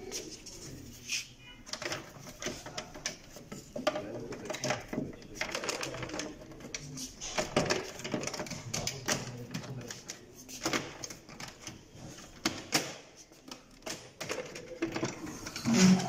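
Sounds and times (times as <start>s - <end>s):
plastic clicks and knocks: 1.7s - 11.8s, 12.4s - 16.0s.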